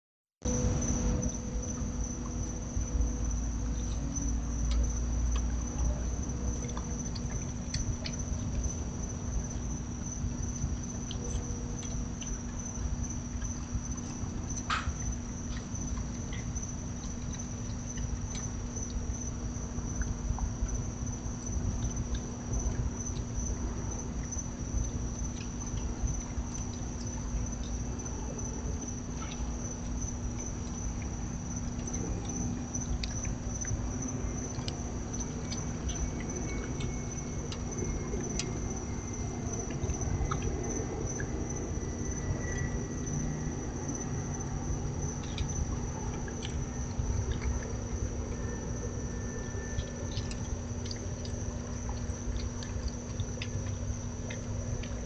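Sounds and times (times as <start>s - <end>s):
steady low hum: 0.4s - 55.0s
crickets trilling: 0.5s - 55.0s.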